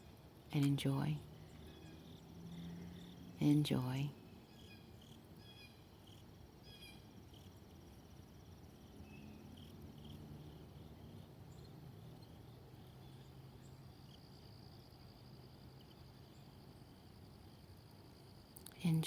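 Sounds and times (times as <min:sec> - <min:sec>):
crickets chirping: 0:00.0 - 0:19.0
fast high insect trill: 0:00.0 - 0:19.0
low steady hum: 0:00.0 - 0:19.0.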